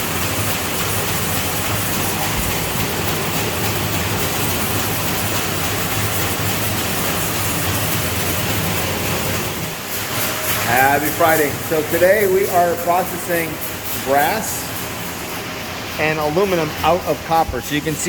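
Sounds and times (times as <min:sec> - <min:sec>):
machinery low hum: 0:00.0 - 0:18.0.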